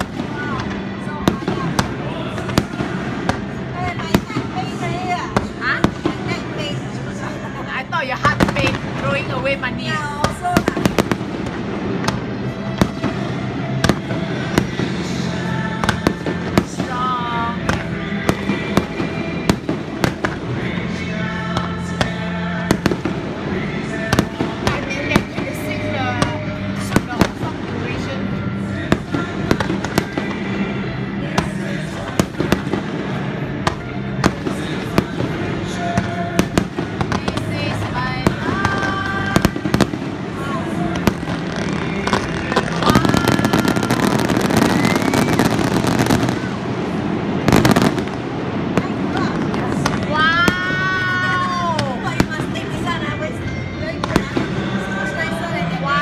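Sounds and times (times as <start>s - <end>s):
fireworks bursting: 0.0s - 55.6s
music playing: 0.0s - 56.0s.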